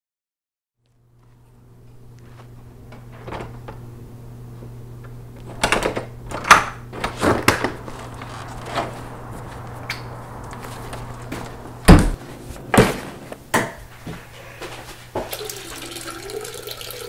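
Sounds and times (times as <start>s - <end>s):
steady low hum: 0.8s - 15.8s.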